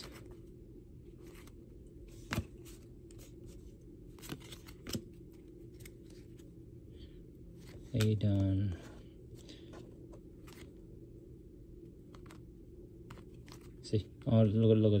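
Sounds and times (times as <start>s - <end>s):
faint low room hum: 0.0s - 15.0s.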